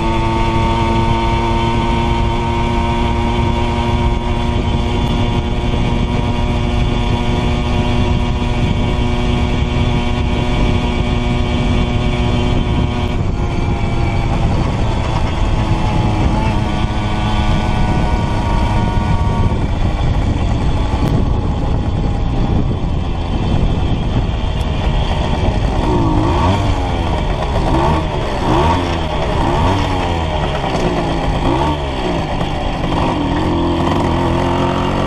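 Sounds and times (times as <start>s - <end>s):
moped two-stroke engine running: 0.0s - 35.0s
wind rush on microphone: 0.0s - 35.0s.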